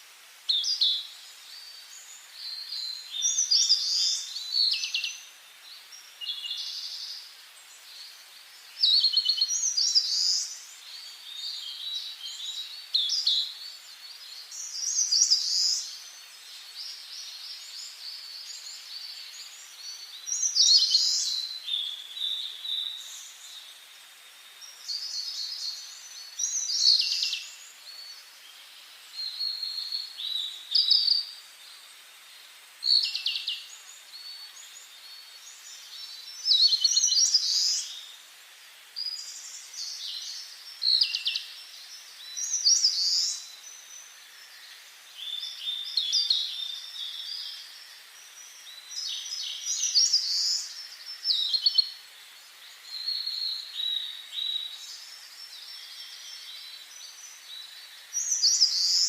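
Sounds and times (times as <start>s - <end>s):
faint steady hiss: 0.0s - 59.0s
songbirds singing: 0.0s - 59.0s.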